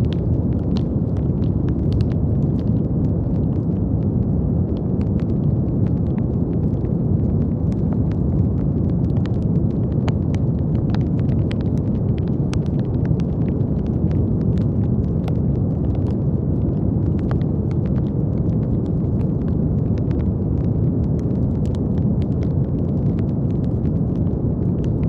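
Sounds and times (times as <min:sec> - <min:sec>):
deep brown noise: 0:00.0 - 0:25.0
faint crackles and pops: 0:00.0 - 0:25.0.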